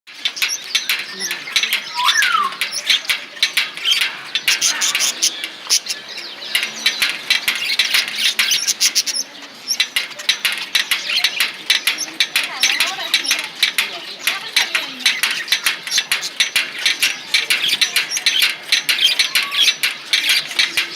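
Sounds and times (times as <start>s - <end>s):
lovebirds chattering: 0.1s - 20.9s.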